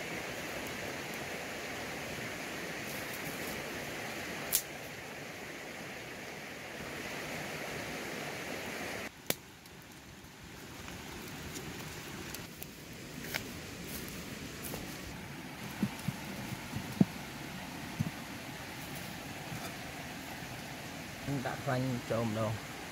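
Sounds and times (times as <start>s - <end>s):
twig fire crackling: 0.0s - 22.9s.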